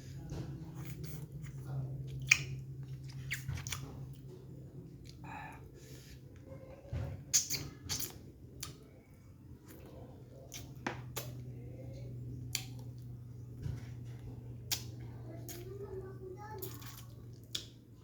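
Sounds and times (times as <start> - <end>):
chewing with wet lip smacks: 0.6 - 5.2, 7.3 - 15.8, 16.6 - 18.0.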